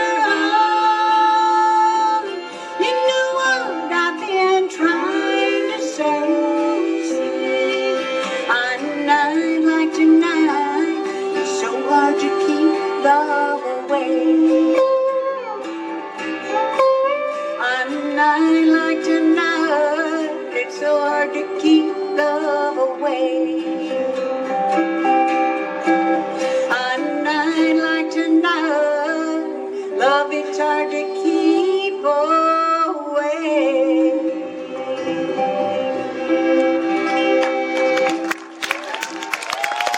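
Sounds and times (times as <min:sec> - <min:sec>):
sliding fiddle and dobro notes: 0:00.0 - 0:38.3
acoustic bluegrass band playing: 0:00.0 - 0:39.0.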